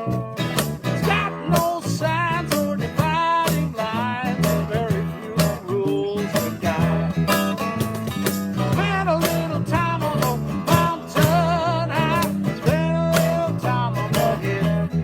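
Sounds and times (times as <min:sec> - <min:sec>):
guitar-led music: 0:00.0 - 0:15.0.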